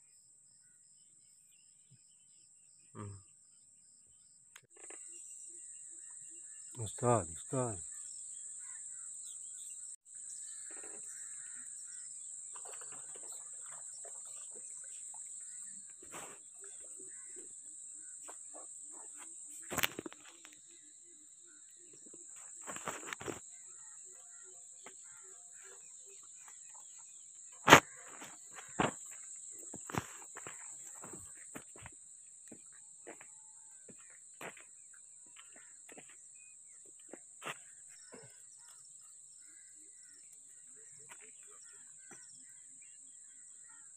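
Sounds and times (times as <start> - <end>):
insects chirring: 4.7 - 43.9.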